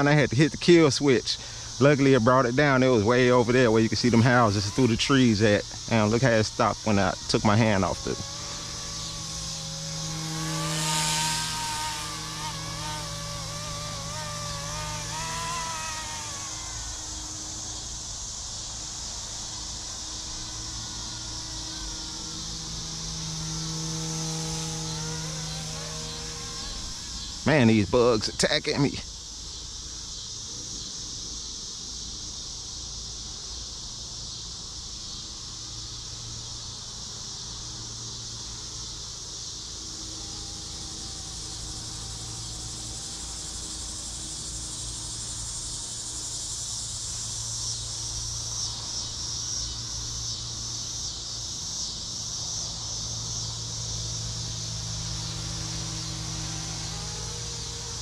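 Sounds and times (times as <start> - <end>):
faint low hum: 0.0 - 51.4, 52.4 - 58.0
insects chirring: 0.0 - 58.0.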